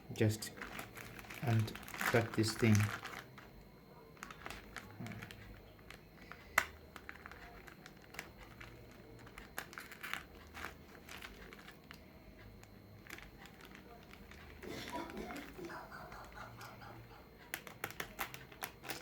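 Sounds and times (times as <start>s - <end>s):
plastic crinkling and rustling: 0.4s - 16.7s, 17.4s - 19.0s.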